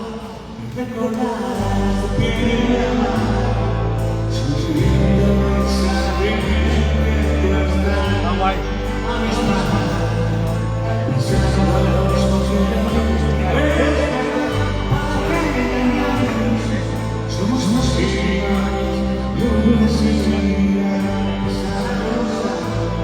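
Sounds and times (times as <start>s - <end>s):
live pop-rock band playing: 1.2s - 23.0s
bass holding long notes: 1.5s - 23.0s.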